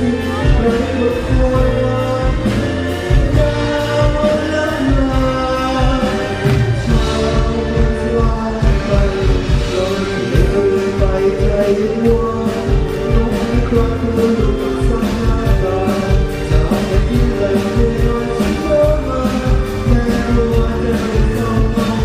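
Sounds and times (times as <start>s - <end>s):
drums keeping steady beat: 0.0s - 22.0s
live band playing pop song: 0.0s - 22.0s
man singing: 0.0s - 22.0s.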